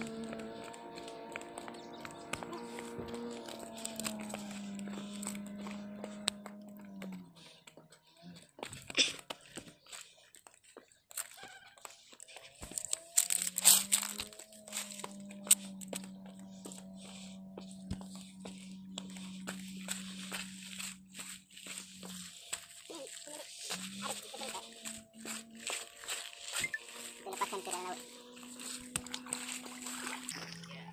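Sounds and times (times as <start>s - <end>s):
steady low hum: 0.0s - 9.1s, 12.6s - 30.9s
footsteps crunching on gravel: 0.0s - 30.9s.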